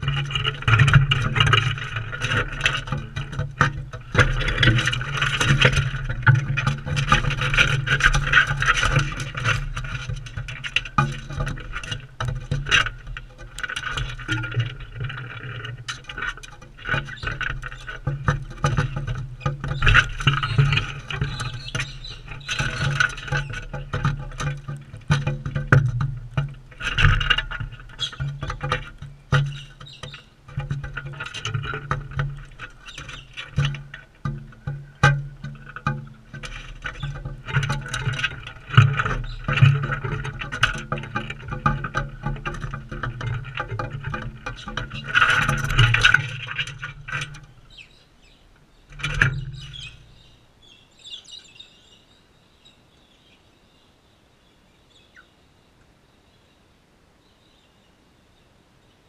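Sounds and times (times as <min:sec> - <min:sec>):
beaks and claws clicking on tray: 0:00.0 - 0:47.7
birds rasping: 0:00.0 - 0:53.5.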